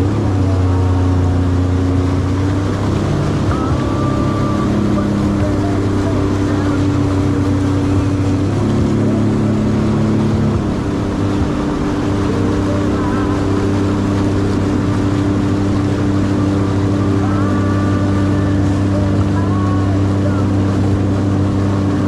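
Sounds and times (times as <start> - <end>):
jet ski engine running: 0.0 - 22.0.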